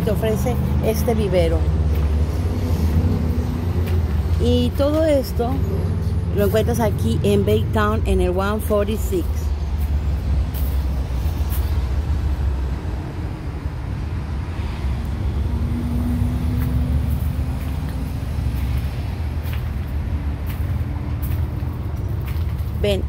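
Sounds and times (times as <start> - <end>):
low rumble of road traffic: 0.0 - 23.0
passing vehicle engine hum: 0.0 - 23.0.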